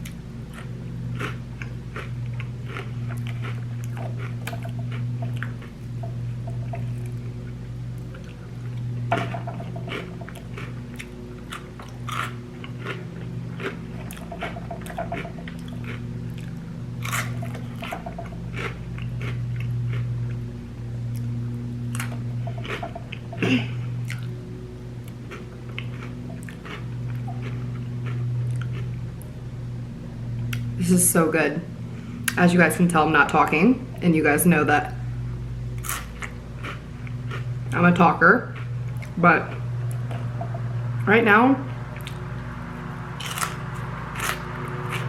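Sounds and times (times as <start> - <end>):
crunching and wet chewing: 0.0 - 24.4, 25.0 - 29.4, 35.7 - 37.8, 38.4 - 41.1, 41.7 - 45.0
lawn mower engine hum: 0.0 - 32.2, 38.7 - 45.0.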